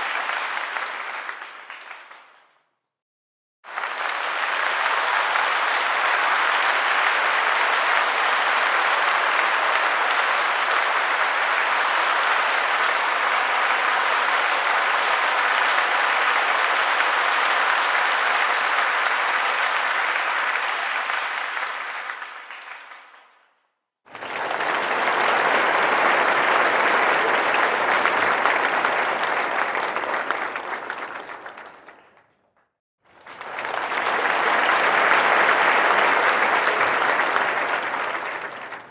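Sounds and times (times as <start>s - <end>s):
crowd applause: 0.0s - 2.4s, 3.7s - 23.4s, 24.1s - 32.4s, 33.1s - 38.9s.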